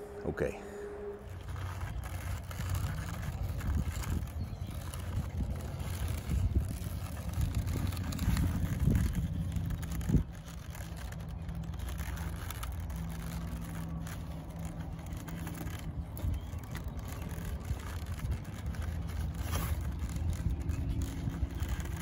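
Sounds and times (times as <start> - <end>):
low outdoor rumble: 0.0 - 22.0
leather and buckle handling: 0.9 - 22.0.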